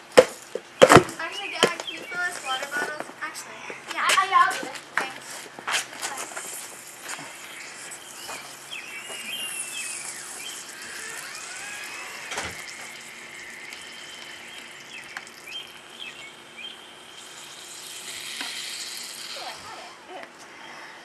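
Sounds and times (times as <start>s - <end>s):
steady background noise: 0.0s - 21.0s
birds chirping: 0.6s - 5.2s, 6.1s - 21.0s.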